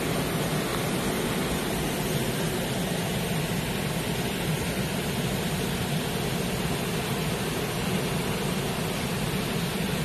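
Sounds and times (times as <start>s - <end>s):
heavy rain falling: 0.0s - 10.0s
water streaming off roof: 0.0s - 10.0s.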